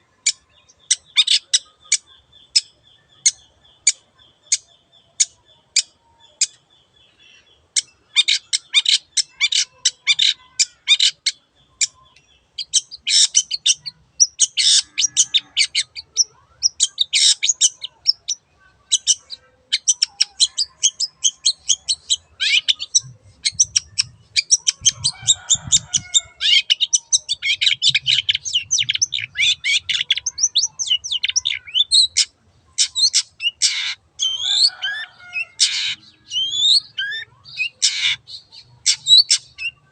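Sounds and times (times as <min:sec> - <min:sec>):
shrike singing chattering song: 0:00.0 - 0:39.9.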